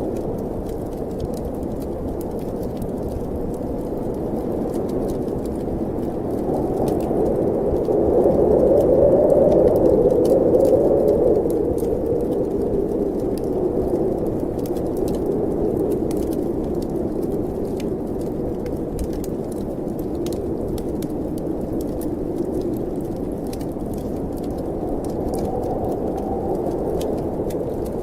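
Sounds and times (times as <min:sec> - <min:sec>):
wood fire crackling: 0:00.0 - 0:28.0
snowstorm wind rushing: 0:03.8 - 0:28.0.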